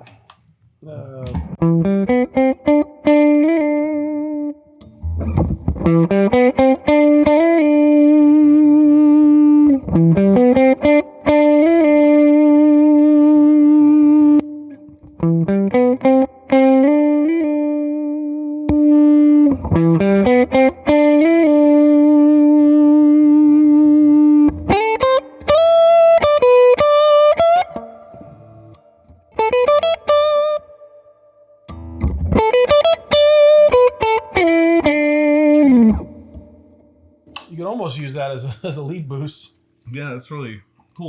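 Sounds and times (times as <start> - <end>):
compressed electric guitar notes: 1.2 - 31.0, 31.7 - 36.9.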